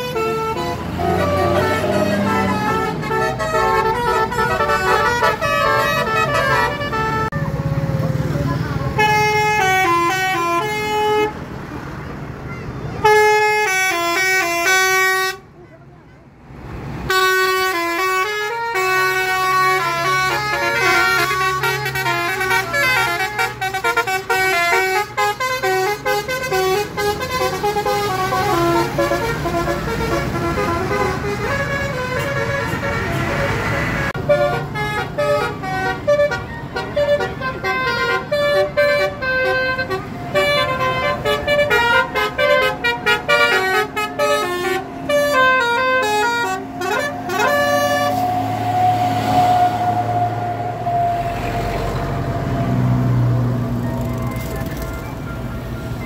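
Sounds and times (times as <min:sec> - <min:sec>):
multi-tone bus horn tune: 0:00.0 - 0:08.0, 0:08.8 - 0:11.6, 0:13.0 - 0:16.1, 0:17.0 - 0:55.4
passing engine and road noise: 0:00.0 - 0:56.0.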